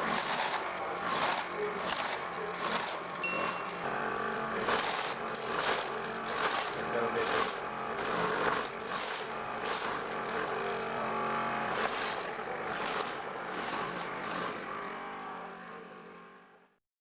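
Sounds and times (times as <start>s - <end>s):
corn sheller motor running: 0.0s - 16.8s.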